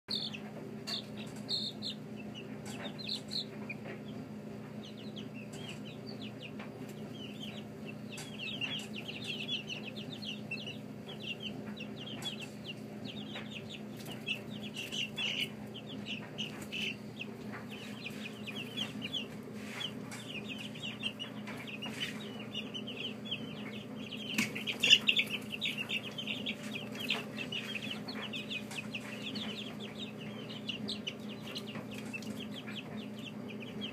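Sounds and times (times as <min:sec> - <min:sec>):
chicks peeping: 0:00.1 - 0:33.9
steady low hum: 0:00.1 - 0:33.9.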